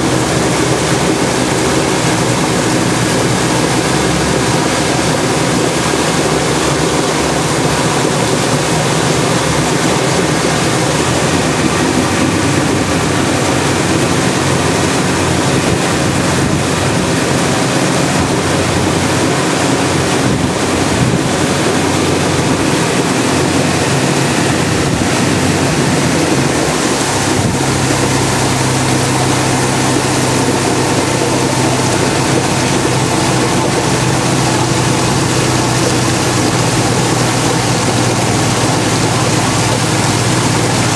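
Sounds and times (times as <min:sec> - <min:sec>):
boat engine running: 0:00.0 - 0:40.9
rushing water: 0:00.0 - 0:40.9
wind noise on microphone: 0:00.0 - 0:40.9.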